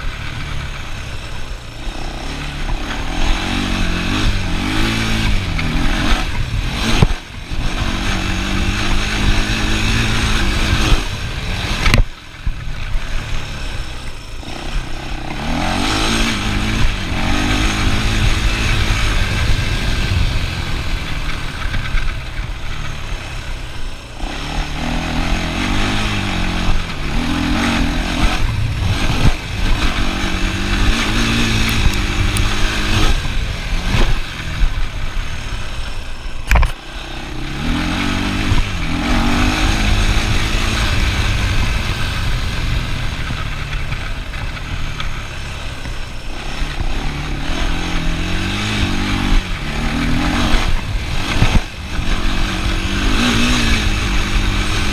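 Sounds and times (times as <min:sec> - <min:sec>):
quad bike engine revving: 0:00.0 - 0:54.9.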